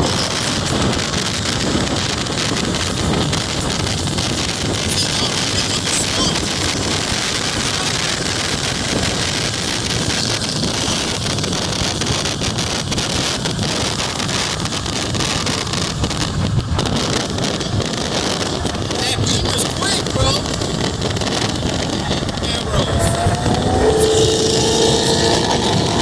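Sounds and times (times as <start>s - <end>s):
car tyre and road noise: 0.0s - 26.0s
wind buffeting microphone: 0.0s - 26.0s.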